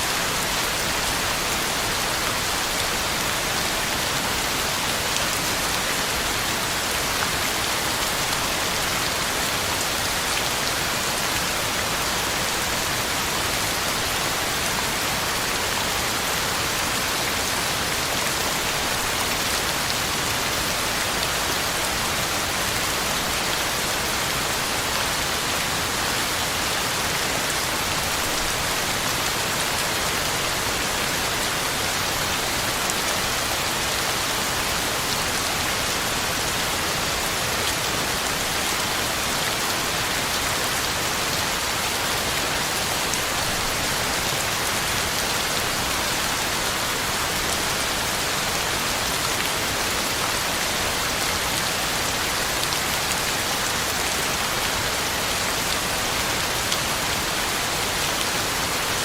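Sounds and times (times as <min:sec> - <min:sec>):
heavy rain pattering on leaves: 0:00.0 - 0:59.0.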